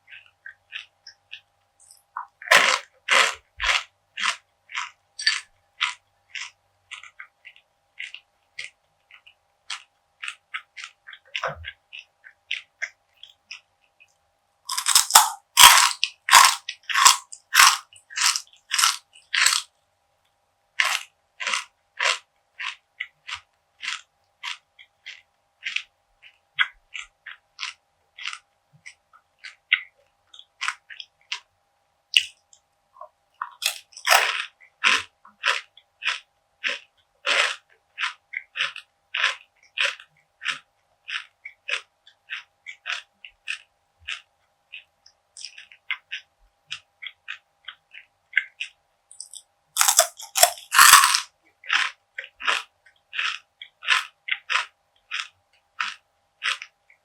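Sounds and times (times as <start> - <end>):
crunchy chewing: 0.0 - 14.1, 14.7 - 19.7, 20.8 - 31.5, 32.2 - 57.0.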